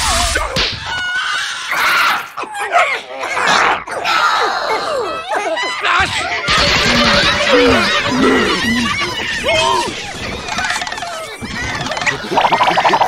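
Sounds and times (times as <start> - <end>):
cartoon characters screaming: 0.0 - 13.0.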